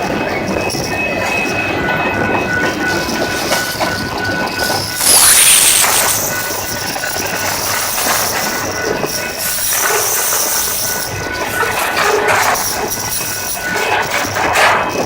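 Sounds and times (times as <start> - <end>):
wheel-on-rail noise: 0.0 - 15.0
high-pitched squeal: 0.1 - 15.0.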